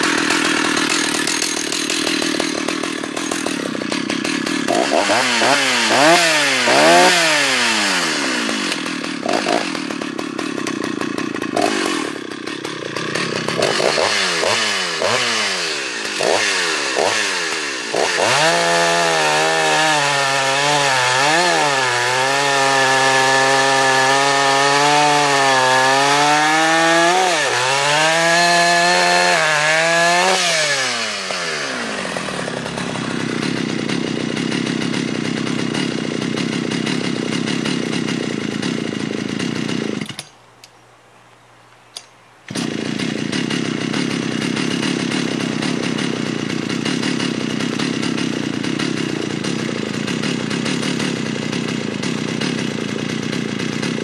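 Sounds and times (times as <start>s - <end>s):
chainsaw cutting through log: 0.0s - 40.4s, 42.0s - 54.0s
chainsaw engine idling: 0.0s - 40.4s, 42.0s - 54.0s.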